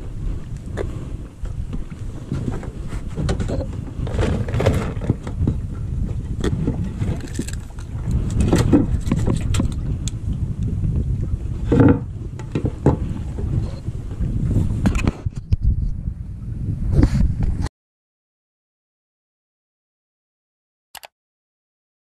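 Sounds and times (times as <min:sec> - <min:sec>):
wind rumbling on microphone: 0:00.0 - 0:17.7.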